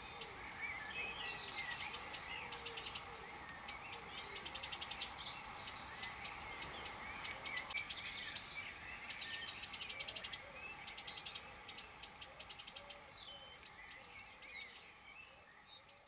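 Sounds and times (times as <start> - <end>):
faint steady hiss: 0.0 - 16.0
small songbirds chirping: 0.0 - 16.0.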